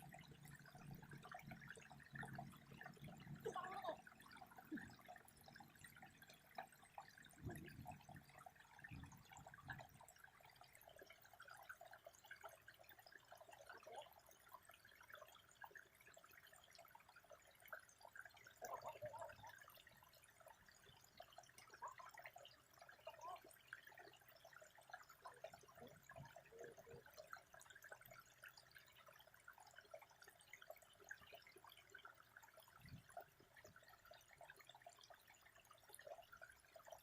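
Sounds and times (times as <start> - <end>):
water trickling and dripping: 0.0 - 37.0.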